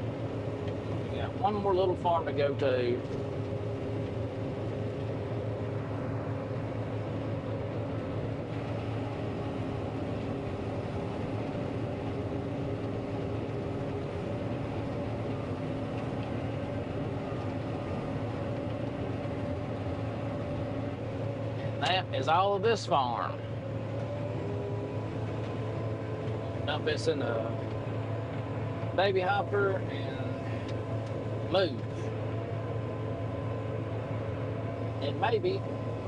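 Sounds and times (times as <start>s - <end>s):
combine harvester hum: 0.0s - 36.0s.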